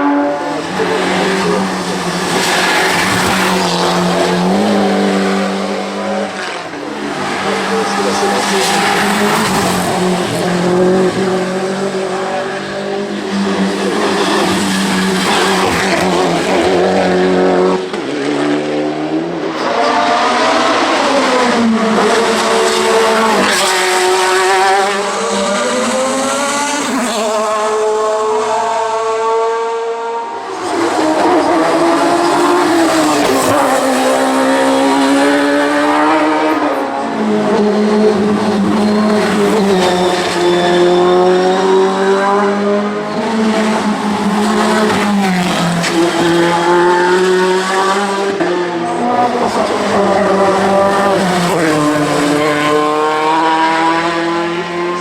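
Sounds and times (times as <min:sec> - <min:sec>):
race car engines accelerating: 0:00.0 - 0:55.0.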